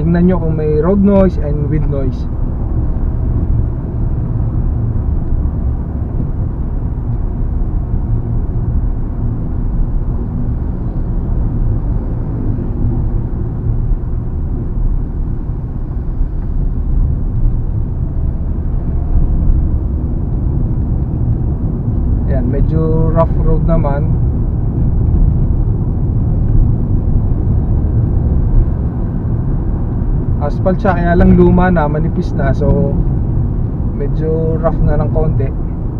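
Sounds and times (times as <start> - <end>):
road and tyre rumble in car cabin: 0.0 - 35.9.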